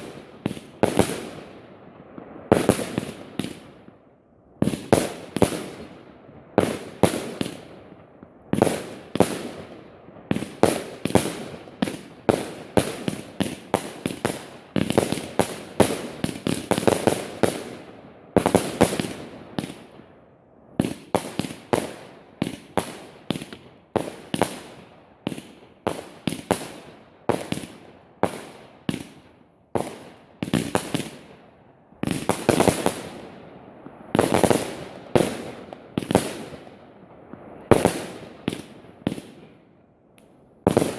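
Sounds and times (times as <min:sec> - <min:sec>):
fireworks bangs echoing: 0:00.0 - 0:04.0, 0:04.6 - 0:20.2, 0:20.8 - 0:39.6, 0:40.6 - 0:40.9.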